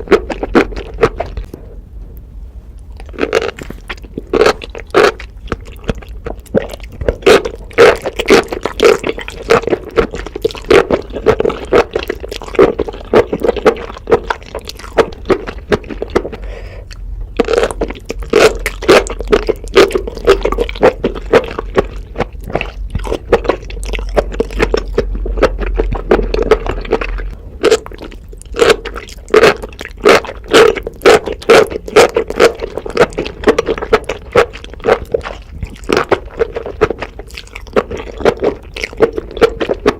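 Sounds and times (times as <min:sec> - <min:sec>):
wet mouth chewing clicks: 0:00.0 - 0:01.6, 0:02.8 - 0:39.9.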